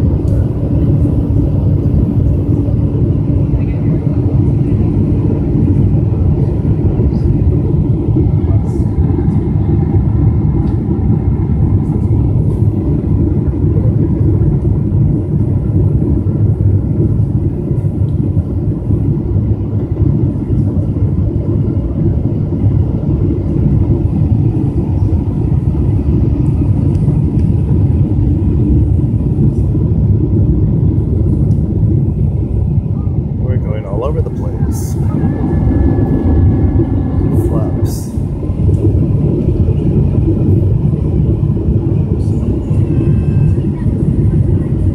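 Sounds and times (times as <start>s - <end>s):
airplane cabin engine roar: 0.0s - 44.9s.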